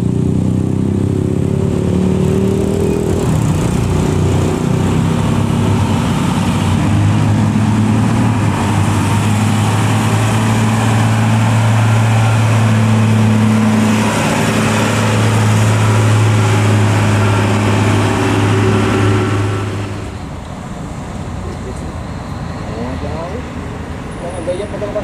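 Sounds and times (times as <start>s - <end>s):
diesel truck engine under load: 2.3s - 24.2s.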